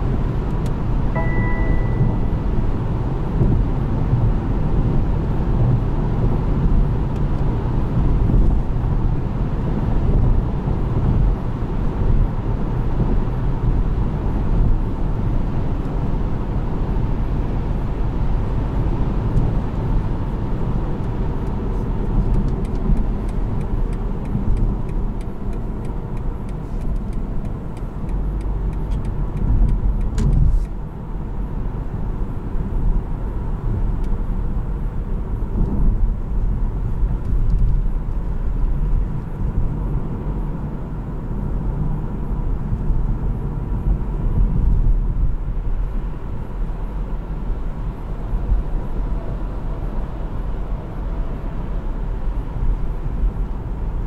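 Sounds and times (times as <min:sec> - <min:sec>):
low engine rumble: 0:00.0 - 0:54.0
road and tyre noise: 0:00.0 - 0:54.0.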